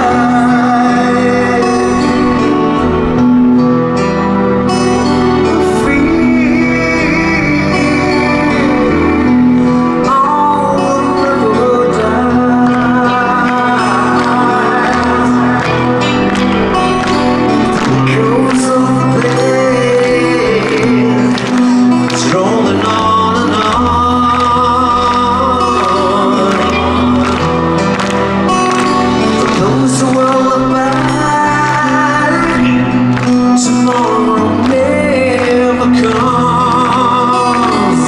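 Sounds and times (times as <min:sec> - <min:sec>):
electric guitar: 0:00.0 - 0:38.0
man singing: 0:00.0 - 0:38.0.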